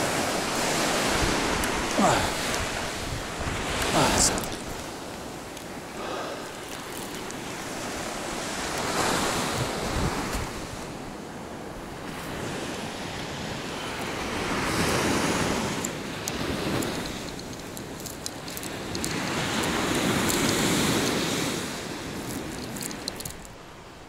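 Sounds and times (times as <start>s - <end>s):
wind buffeting microphone: 0.0s - 23.7s
sea waves breaking on shore: 0.0s - 24.0s.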